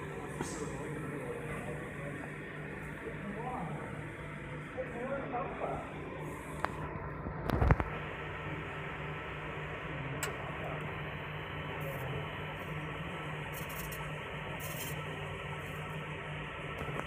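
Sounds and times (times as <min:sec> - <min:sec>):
laser machine humming: 0:00.0 - 0:17.0.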